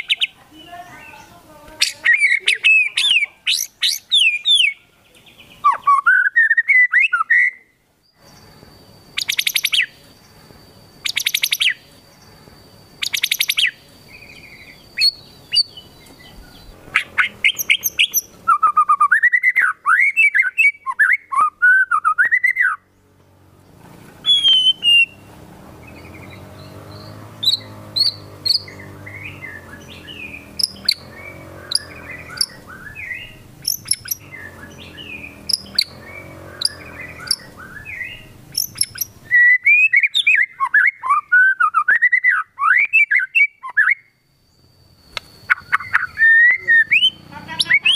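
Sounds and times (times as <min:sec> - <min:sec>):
bird singing varied song: 0:00.0 - 0:47.9.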